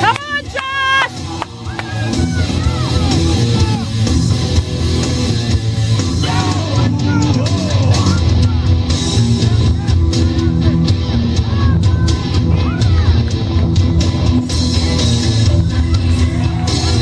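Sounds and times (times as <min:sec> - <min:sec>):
rock music with singer: 0:00.0 - 0:17.0.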